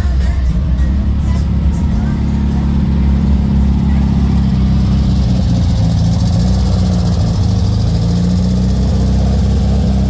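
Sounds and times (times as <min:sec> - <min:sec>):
train engine humming: 0:00.0 - 0:10.0.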